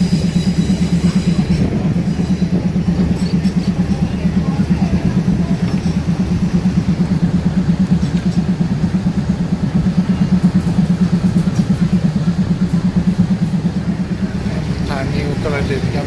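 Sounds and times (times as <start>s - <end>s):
diesel train droning: 0.0s - 16.0s.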